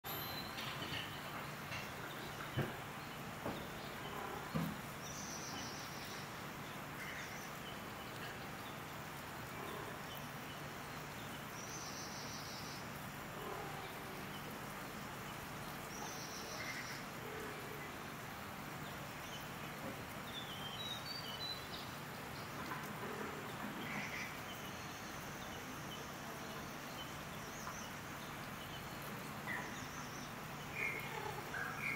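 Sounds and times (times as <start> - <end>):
birds chirping: 0.1 - 31.9.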